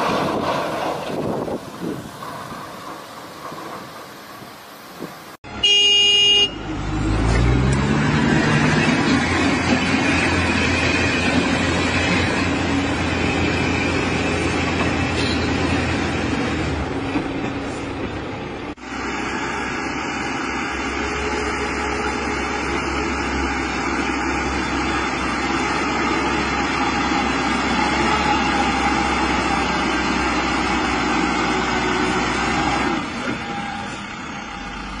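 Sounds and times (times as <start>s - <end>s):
heavy machinery engines: 0.0s - 35.0s.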